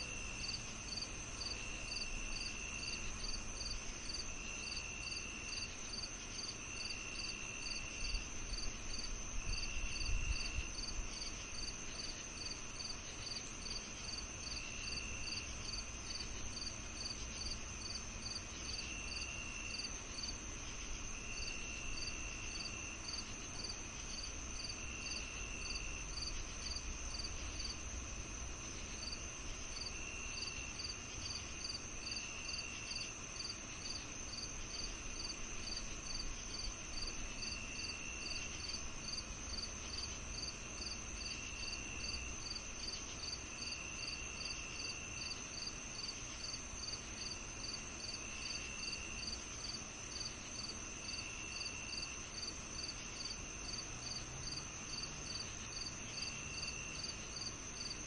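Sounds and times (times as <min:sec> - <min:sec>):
crickets chirping: 0:00.0 - 0:58.0
high insect drone: 0:00.0 - 0:58.0
low insect trill: 0:00.0 - 0:58.0.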